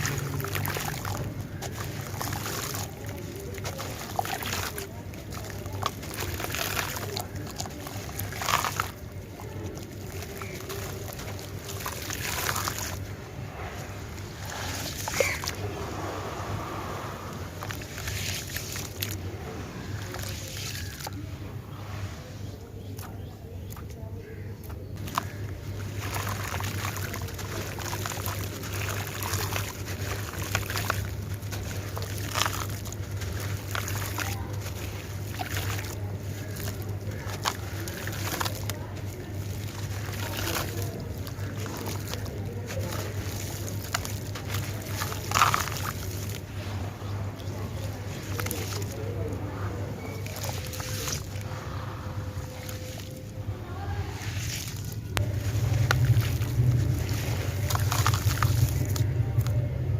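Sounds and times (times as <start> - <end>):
steady low hum: 0.0 - 59.9
water sloshing and trickling: 0.0 - 59.9
wet crunches of crushed chunks: 0.0 - 59.9.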